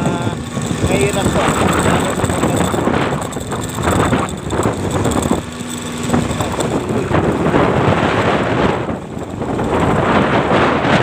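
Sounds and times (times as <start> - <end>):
heavy wind buffeting microphone: 0.0 - 11.0
vehicle running: 0.0 - 11.0.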